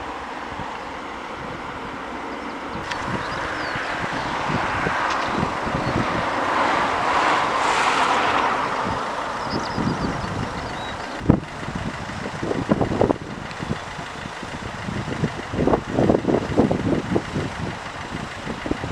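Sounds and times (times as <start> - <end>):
jet engine roar: 0.0 - 18.9
wind buffeting microphone: 0.0 - 18.9.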